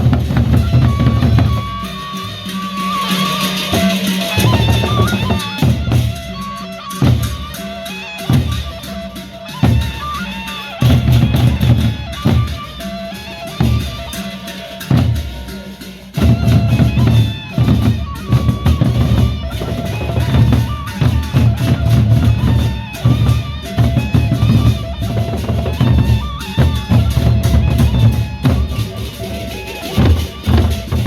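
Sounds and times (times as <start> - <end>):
heavy drum beats: 0.0 - 31.0
procession band music: 0.0 - 31.0.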